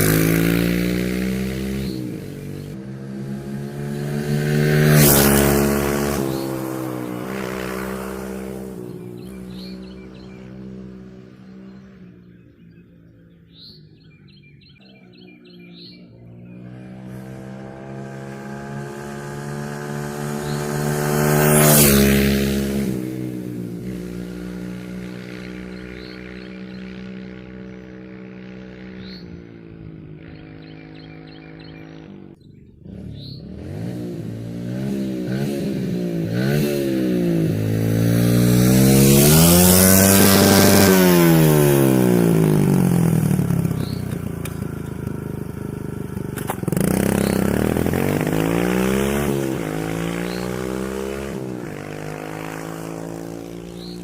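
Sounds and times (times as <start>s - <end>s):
dirt bike engine revving: 0.0s - 12.8s, 15.4s - 54.0s.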